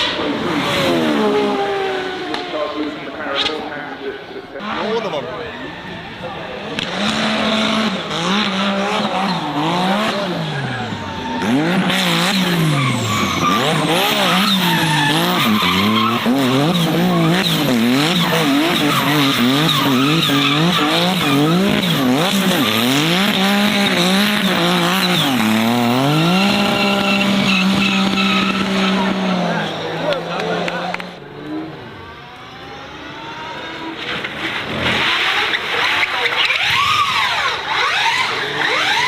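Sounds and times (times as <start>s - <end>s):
race car engine revving: 0.0s - 39.0s
tyres squealing and skidding: 0.0s - 39.0s.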